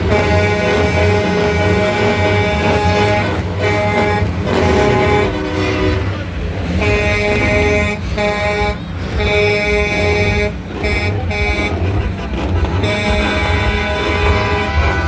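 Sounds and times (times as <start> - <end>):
heavy truck engine rumbling: 0.0 - 15.0
pitched horn-like notes: 0.0 - 15.0.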